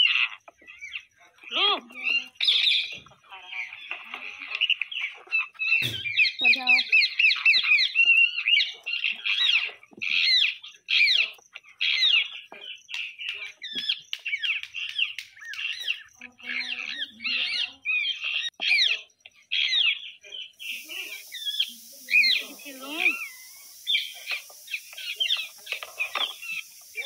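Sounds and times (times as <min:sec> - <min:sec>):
parakeets calling: 0:00.0 - 0:27.0.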